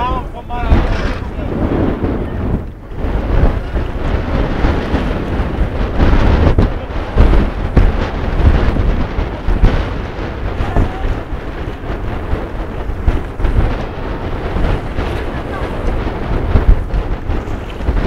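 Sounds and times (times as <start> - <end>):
water rushing past boat: 0.0 - 18.0
wind buffeting microphone: 0.0 - 18.0.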